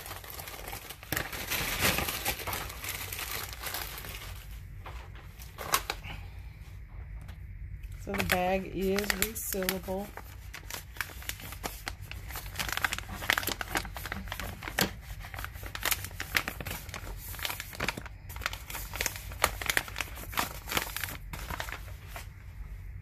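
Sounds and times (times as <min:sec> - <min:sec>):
plastic bag crinkling: 0:00.0 - 0:06.2, 0:07.9 - 0:22.5.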